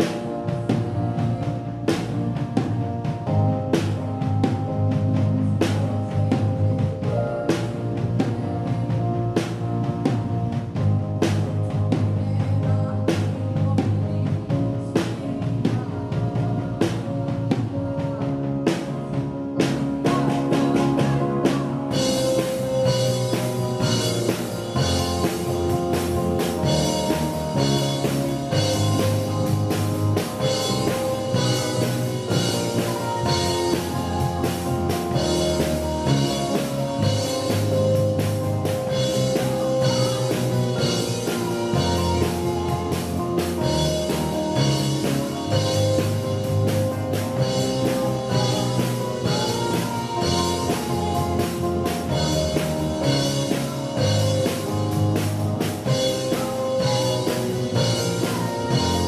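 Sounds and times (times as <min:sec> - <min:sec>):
bass guitar: 0:00.0 - 0:59.0
drum kit: 0:00.0 - 0:59.0
keyboards: 0:00.0 - 0:59.0
person singing: 0:11.2 - 0:59.0.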